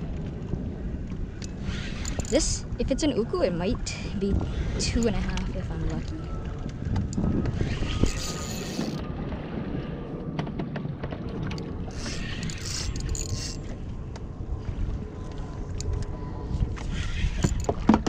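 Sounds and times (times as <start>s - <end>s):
water around boat: 0.0s - 18.0s
wind rumbling on microphone: 0.0s - 18.0s.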